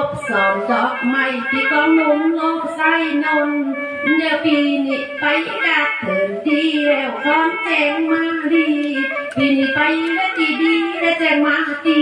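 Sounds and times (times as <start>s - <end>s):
woman singing long notes: 0.0s - 12.0s.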